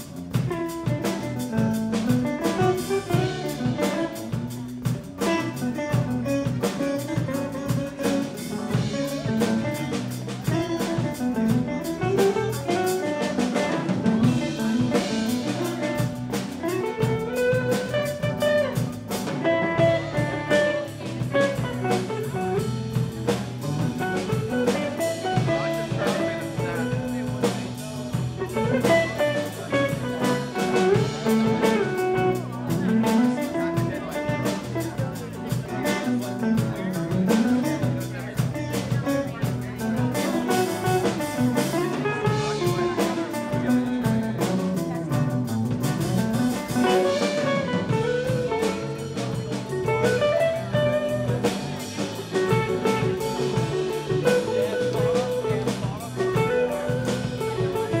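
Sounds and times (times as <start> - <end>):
bass: 0.0 - 58.0
drum kit: 0.0 - 58.0
electric guitar melody: 0.0 - 58.0.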